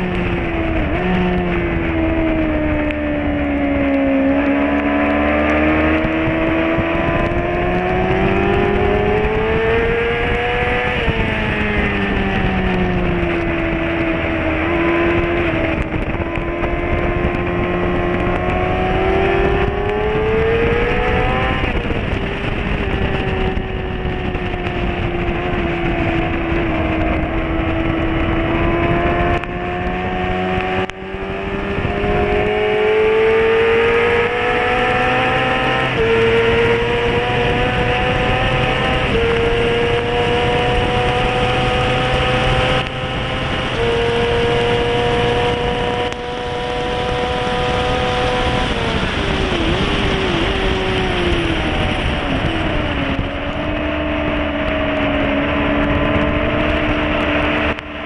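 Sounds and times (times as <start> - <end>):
motorcycle engine revving: 0.0 - 58.0
rush of noise: 0.0 - 58.0.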